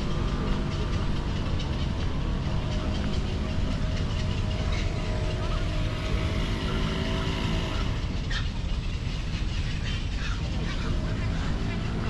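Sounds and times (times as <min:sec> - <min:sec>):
motor running nearby: 0:00.0 - 0:12.0
passing traffic rumble: 0:00.0 - 0:12.0.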